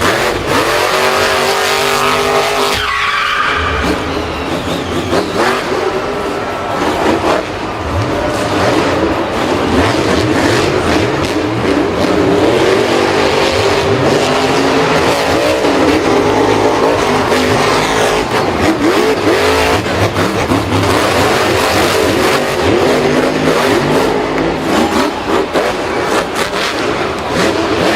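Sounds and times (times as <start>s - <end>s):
vehicle engines revving: 0.0s - 27.9s.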